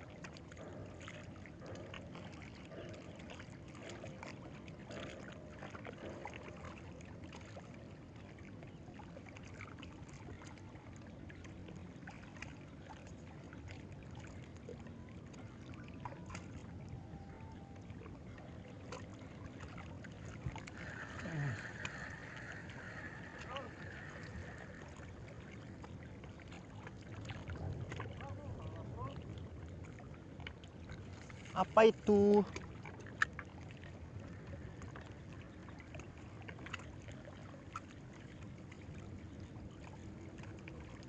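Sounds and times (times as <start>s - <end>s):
water lapping and sloshing: 0.0s - 41.0s.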